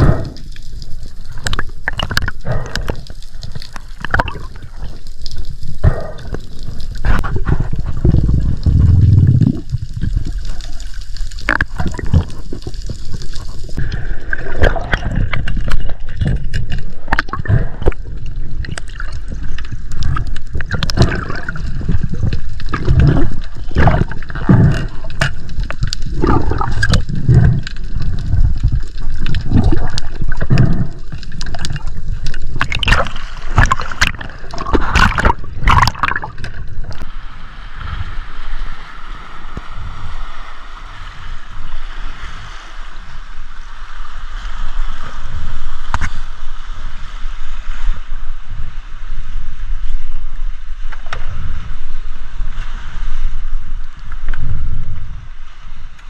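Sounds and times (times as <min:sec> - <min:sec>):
water sloshing and gurgling: 0:00.0 - 0:48.7.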